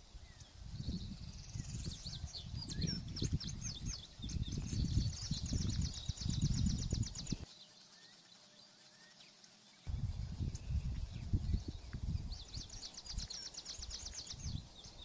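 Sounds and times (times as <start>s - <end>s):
songbird chirping and trilling: 0.0s - 15.0s
wind buffeting microphone: 0.1s - 7.5s, 9.9s - 15.0s.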